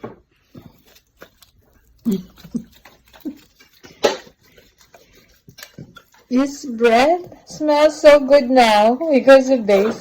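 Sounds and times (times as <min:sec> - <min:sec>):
dog chewing leaves: 0:00.4 - 0:10.0.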